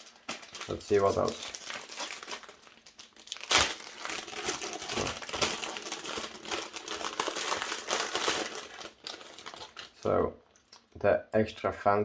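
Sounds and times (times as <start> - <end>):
loud packaging crackle: 0.0 - 10.2
packaging crinkling and rustling: 0.0 - 10.9.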